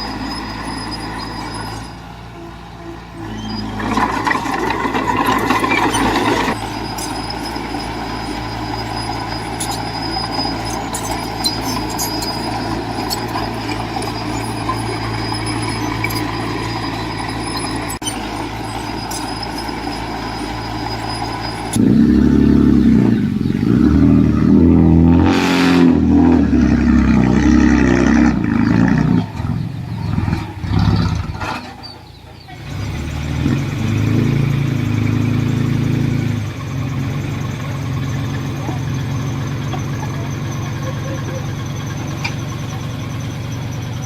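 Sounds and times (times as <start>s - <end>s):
heavy diesel engine revving: 0.0s - 44.0s.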